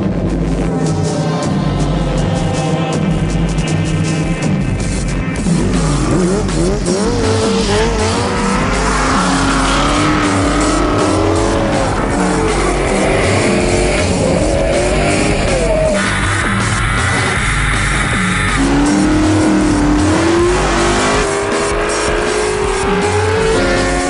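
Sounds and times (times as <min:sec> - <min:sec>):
background music: 0:00.0 - 0:24.0
car engine revving: 0:00.0 - 0:24.0.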